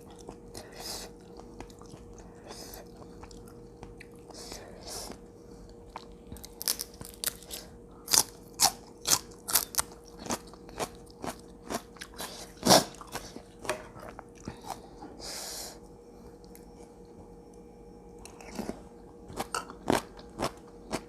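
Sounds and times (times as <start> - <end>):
person chewing crunchy food: 0.0 - 15.2, 18.2 - 21.0.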